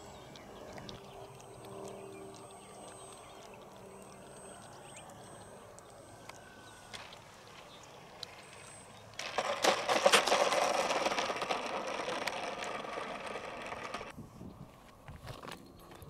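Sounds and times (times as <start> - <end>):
model airplane motor and propeller: 0.0 - 14.2.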